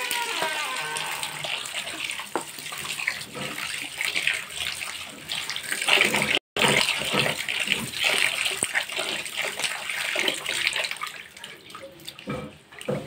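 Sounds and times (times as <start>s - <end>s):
tap water pouring into a pan: 0.0s - 13.0s.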